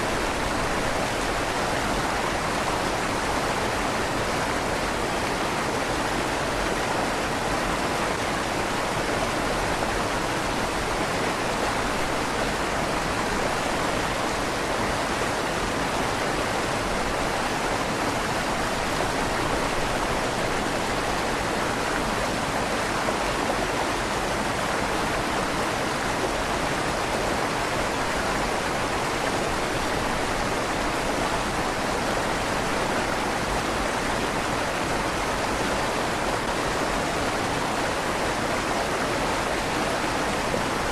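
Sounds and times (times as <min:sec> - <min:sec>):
river water rushing under bridge: 0:00.0 - 0:40.9.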